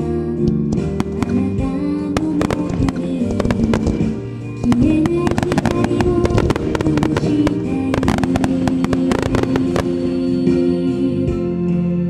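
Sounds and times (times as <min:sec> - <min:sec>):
music: 0:00.0 - 0:12.0
fireworks bangs and crackles: 0:00.5 - 0:11.0.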